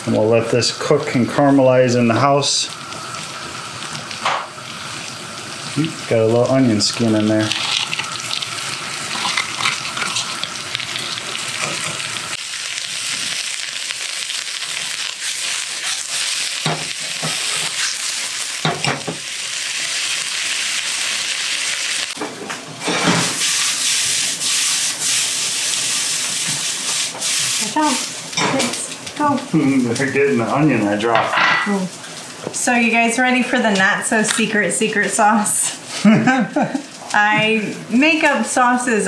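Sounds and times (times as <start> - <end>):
vegetables sizzling in a pan: 0.0 - 39.0
vegetables stirred in pan: 0.0 - 39.0.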